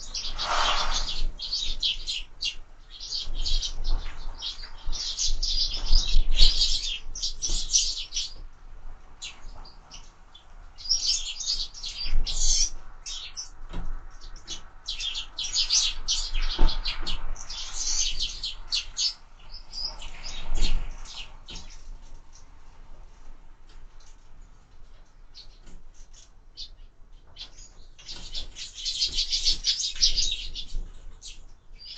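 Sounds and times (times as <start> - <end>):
sparrows chirping: 0.0 - 8.4, 9.1 - 22.5, 25.0 - 31.9.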